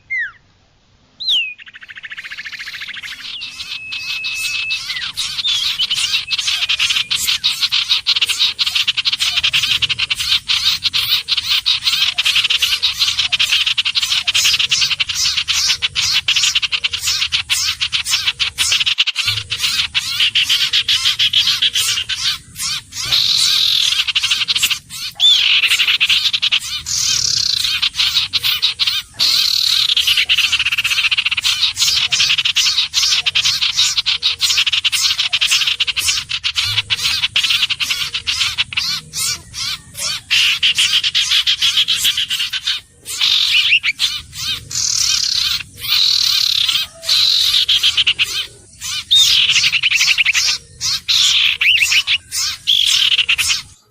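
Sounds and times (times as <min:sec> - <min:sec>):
bird calling sharp repeated notes: 0:00.0 - 0:00.5, 0:01.2 - 0:53.9.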